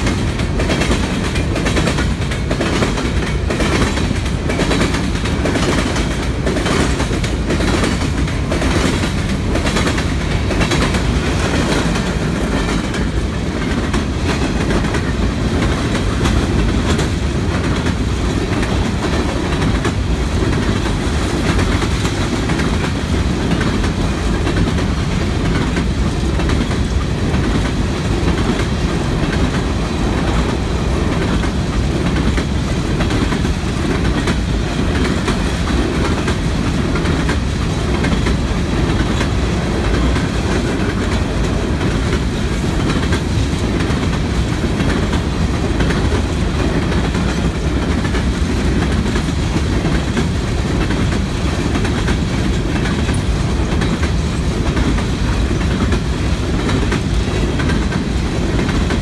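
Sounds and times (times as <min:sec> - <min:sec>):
freight train rumbling: 0:00.0 - 0:59.0
wheels clacking over rail joints: 0:00.0 - 0:59.0.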